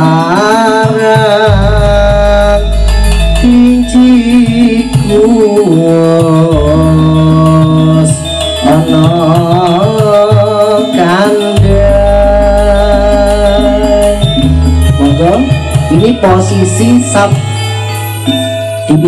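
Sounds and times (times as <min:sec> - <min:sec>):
song with sung vocal: 0:00.0 - 0:19.0
deep bass notes: 0:01.0 - 0:10.8, 0:11.6 - 0:19.0.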